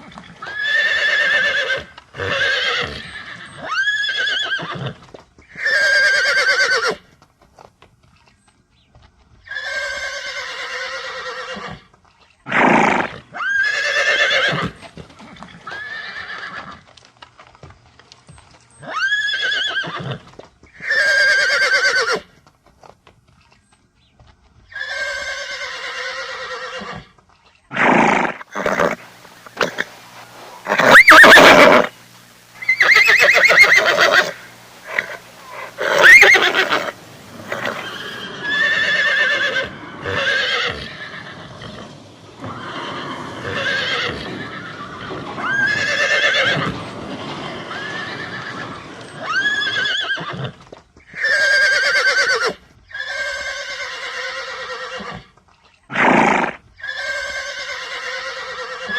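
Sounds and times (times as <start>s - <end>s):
horse neighing: 0.4s - 7.1s, 9.5s - 11.8s, 12.5s - 14.8s, 15.6s - 16.8s, 18.8s - 20.2s, 20.8s - 22.3s, 24.7s - 27.1s, 27.7s - 55.3s, 55.9s - 58.9s.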